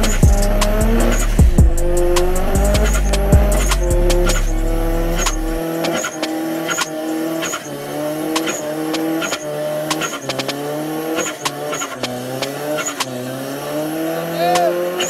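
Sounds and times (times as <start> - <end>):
tires squealing: 0.0 - 15.0.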